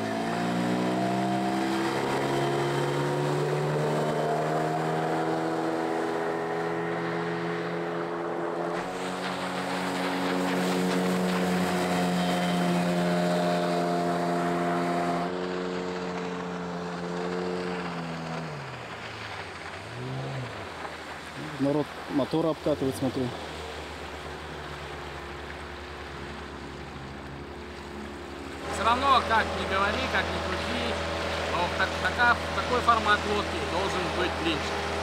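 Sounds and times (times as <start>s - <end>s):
outboard motor running: 0.0s - 35.0s.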